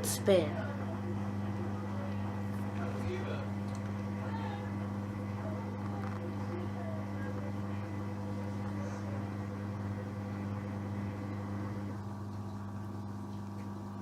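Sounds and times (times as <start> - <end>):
drain pump humming: 0.0 - 14.0.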